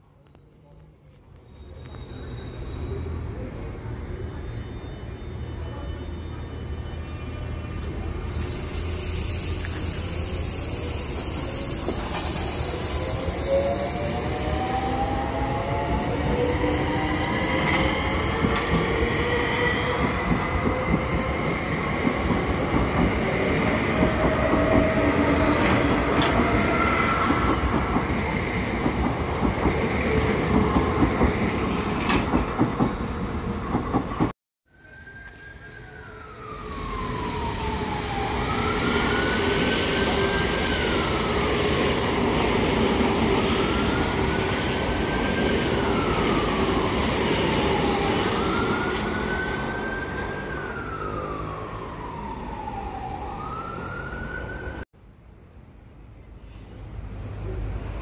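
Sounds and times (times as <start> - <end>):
electric trains passing rumble: 1.7 - 34.3, 34.9 - 54.8.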